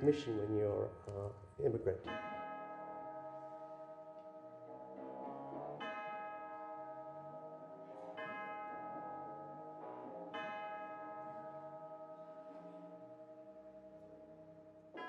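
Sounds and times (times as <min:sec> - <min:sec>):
bell-like chords ringing: 0:00.0 - 0:15.0.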